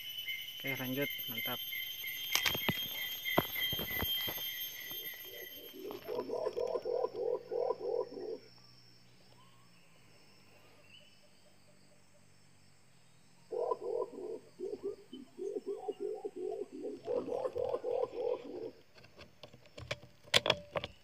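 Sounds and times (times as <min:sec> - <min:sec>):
low croaking animal calls: 0:00.0 - 0:10.1, 0:10.7 - 0:19.0.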